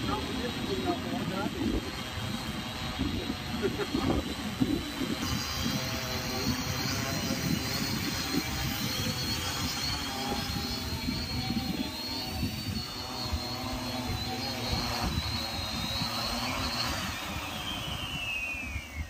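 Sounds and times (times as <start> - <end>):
drone propellers whirring: 0.0 - 19.0.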